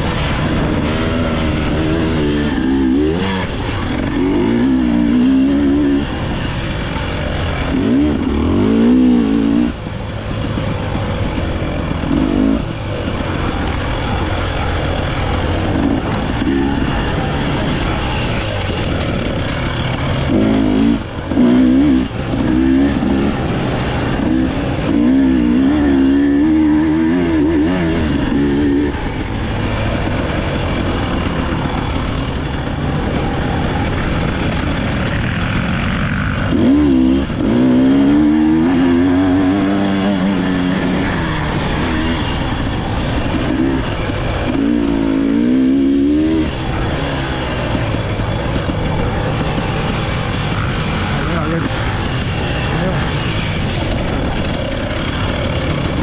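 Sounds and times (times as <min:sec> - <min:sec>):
dirt bike engine revving: 0:00.0 - 0:56.0
steady rushing noise: 0:00.0 - 0:56.0.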